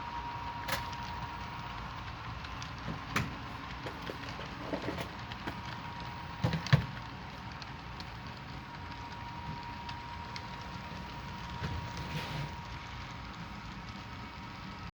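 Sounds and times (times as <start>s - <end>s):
locomotive and train running: 0.0s - 14.9s
thin steady whine: 0.0s - 14.9s.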